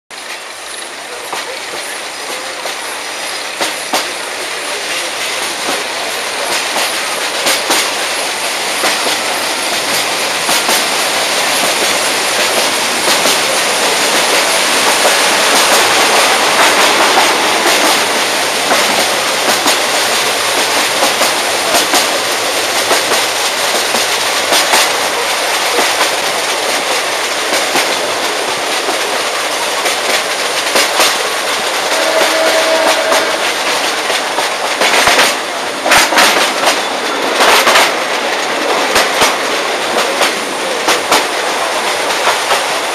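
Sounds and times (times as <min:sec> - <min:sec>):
train wheels rolling on rails: 0:00.1 - 0:42.9
wheels clacking over rail joints: 0:00.1 - 0:42.9.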